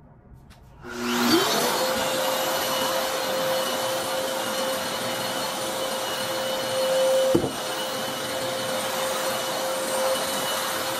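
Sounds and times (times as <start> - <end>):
drywall sander motor whine: 0.8 - 10.9.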